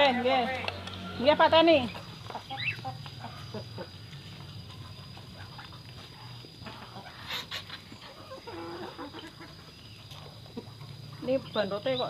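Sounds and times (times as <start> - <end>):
soft chicken and duck calls: 0.1 - 11.5.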